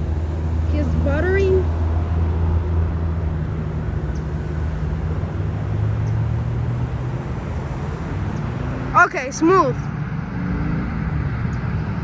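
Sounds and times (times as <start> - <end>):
jet engines rumbling: 0.0 - 9.9.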